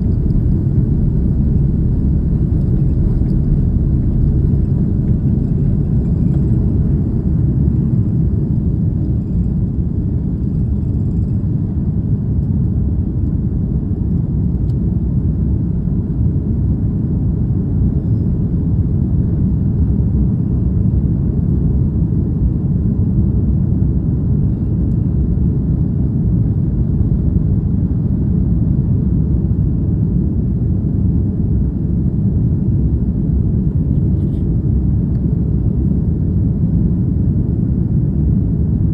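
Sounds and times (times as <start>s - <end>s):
jet engines rumbling: 0.0s - 28.2s, 32.6s - 38.9s.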